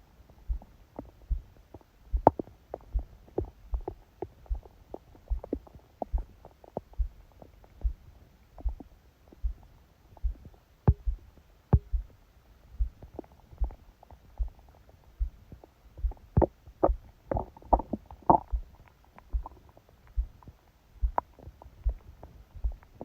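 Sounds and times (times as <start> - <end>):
heartbeat thumps: 0.4 - 14.6, 15.2 - 23.0
stomach gurgling: 0.5 - 12.1, 12.8 - 23.0.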